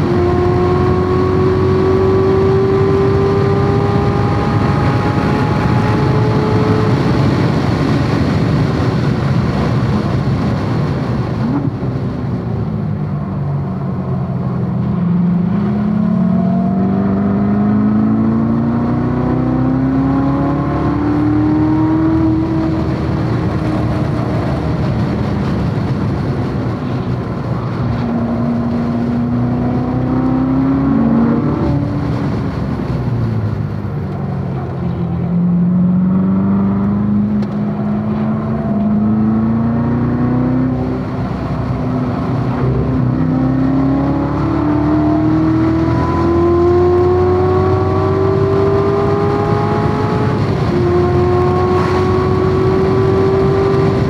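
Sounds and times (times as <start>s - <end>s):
sports car engine at full throttle: 0.0s - 54.0s.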